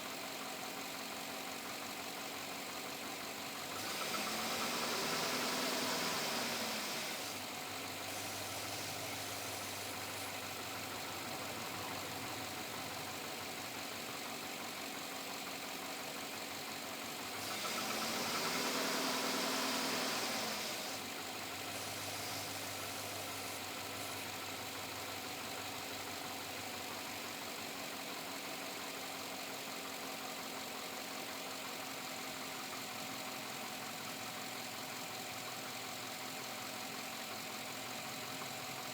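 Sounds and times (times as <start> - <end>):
engine idling and revving: 0.0 - 38.9
engine knocking: 0.0 - 38.9.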